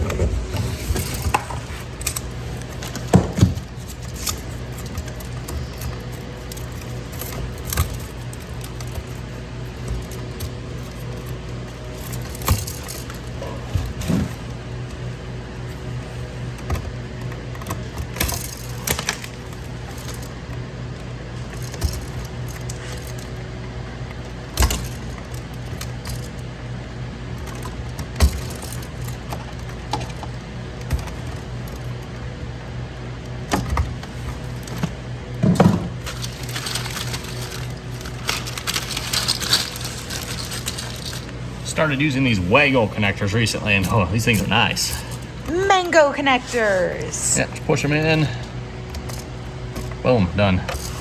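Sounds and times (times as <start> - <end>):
small wiring parts clicking: 0.0 - 32.4, 33.1 - 46.0, 46.9 - 51.0.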